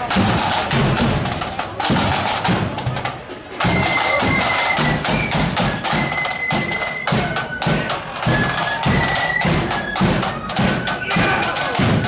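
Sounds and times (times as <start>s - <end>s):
side drums and bass drum march beat: 0.0s - 12.0s
flute melody: 2.2s - 12.0s.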